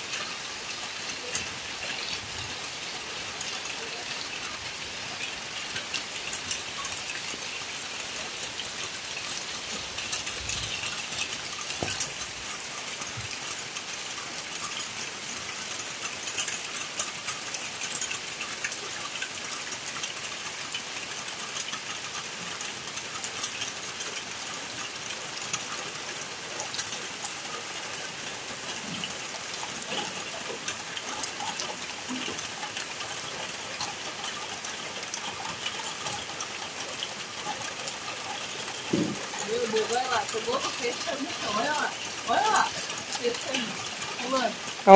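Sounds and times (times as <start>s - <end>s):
rain falling on ground and roofs: 0.0s - 44.9s.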